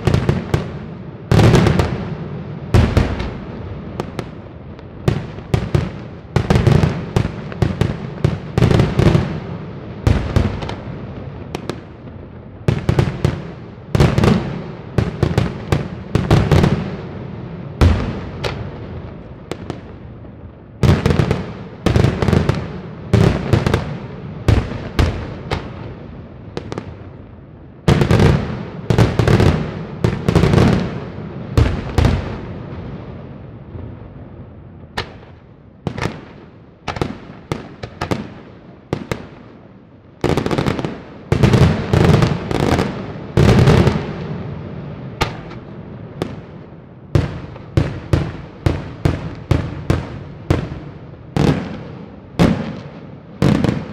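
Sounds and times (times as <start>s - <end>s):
fireworks bangs echoing: 0.0s - 53.9s.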